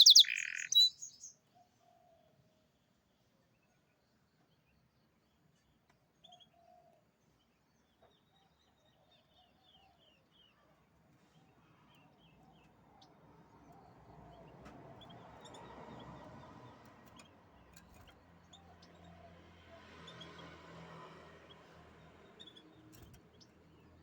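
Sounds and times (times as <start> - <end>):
faint canary song: 0.0 - 24.0.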